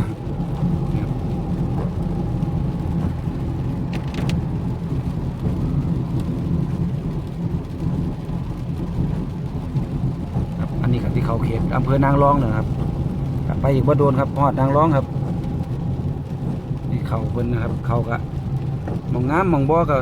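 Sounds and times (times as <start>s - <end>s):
vehicle engine and road drone: 0.0s - 20.0s.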